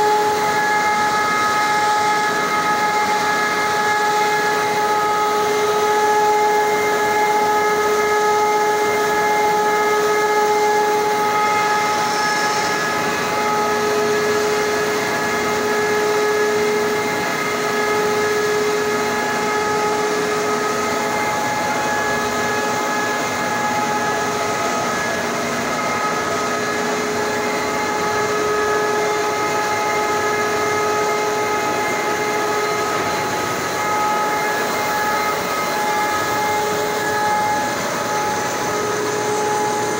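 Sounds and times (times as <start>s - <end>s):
machine high whine: 0.0s - 39.9s.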